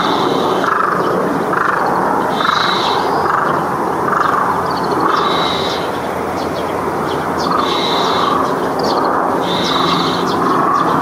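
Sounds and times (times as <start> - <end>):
low repeating bird call: 0.0 - 11.0
sparrows chirping: 0.0 - 11.0
steady background noise: 0.0 - 11.0.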